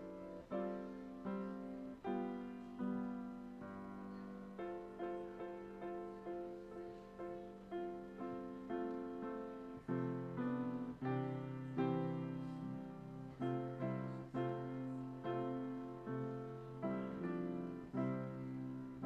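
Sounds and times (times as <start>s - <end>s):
slow piano playing: 0.0s - 19.0s.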